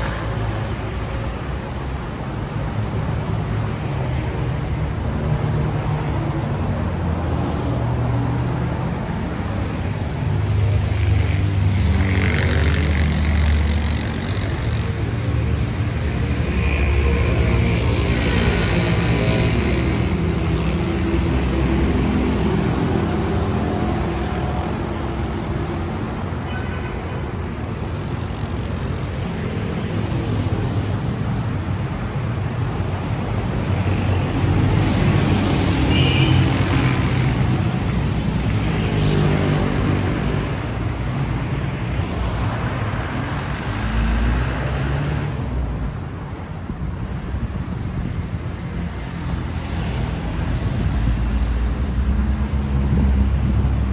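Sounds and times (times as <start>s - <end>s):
vehicles passing: 0.0s - 53.9s.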